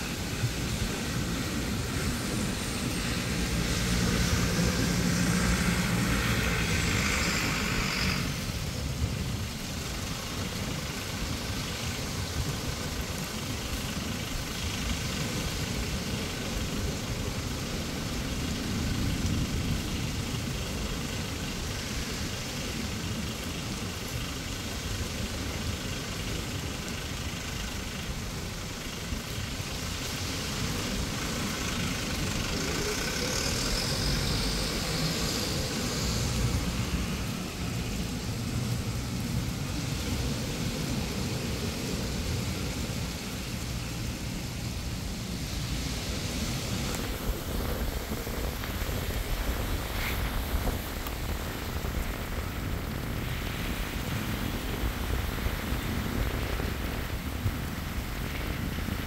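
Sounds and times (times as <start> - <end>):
surf washing on beach: 0.0 - 59.0
wind buffeting microphone: 0.0 - 59.0.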